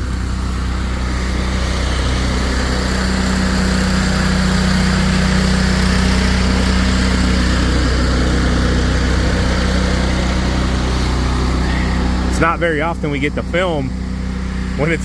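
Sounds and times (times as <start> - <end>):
snowplow engine running: 0.0 - 15.0.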